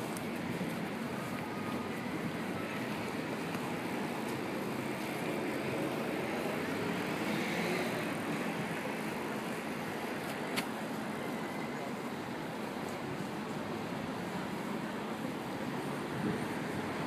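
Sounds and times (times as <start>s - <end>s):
city traffic: 0.0s - 17.0s.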